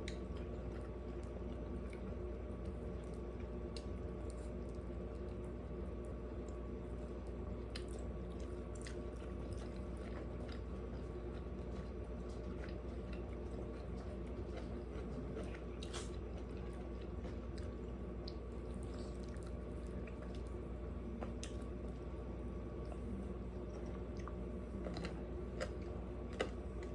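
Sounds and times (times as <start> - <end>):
chewing and biting food: 0.0 - 26.9.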